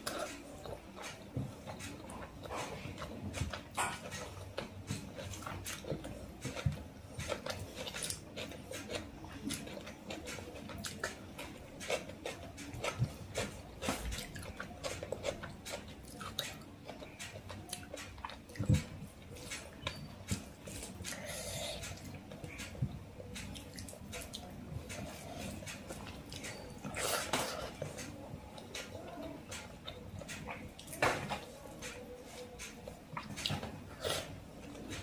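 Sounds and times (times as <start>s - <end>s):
wet chewing and lip-smacking: 0.0s - 35.0s.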